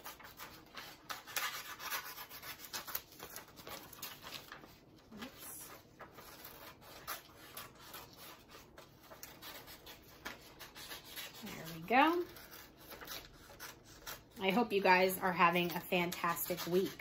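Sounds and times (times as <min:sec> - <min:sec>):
paper rustling: 0:00.0 - 0:17.0
scissors snipping paper: 0:00.0 - 0:17.0.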